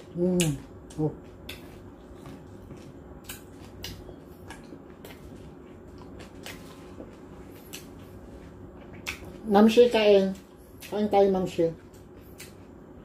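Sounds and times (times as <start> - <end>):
person chewing with wet smacks: 0.0 - 9.5, 11.8 - 12.8
faint low hum: 0.0 - 13.0.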